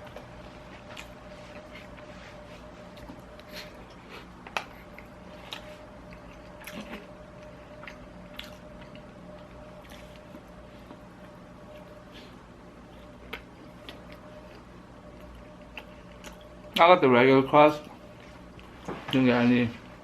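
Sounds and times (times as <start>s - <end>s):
person chewing: 0.0s - 16.8s
faint steady hum: 0.0s - 20.0s.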